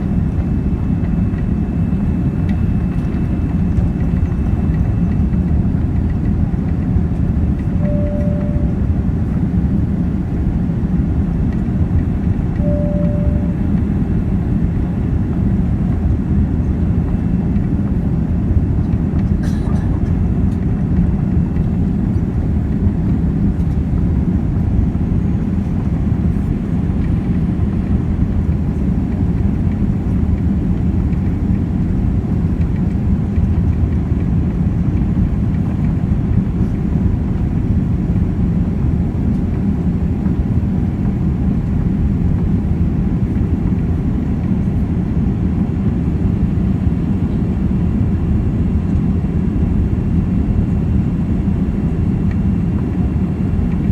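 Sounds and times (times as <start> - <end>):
jet engine cabin rumble: 0.0 - 53.9.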